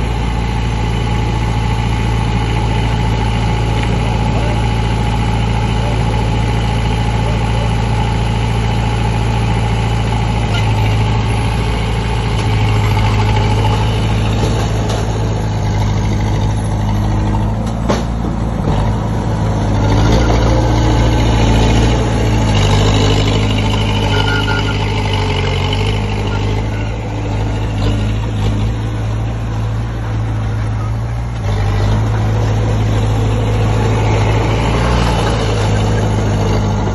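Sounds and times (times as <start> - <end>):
bulldozer diesel engine running: 0.0 - 36.9.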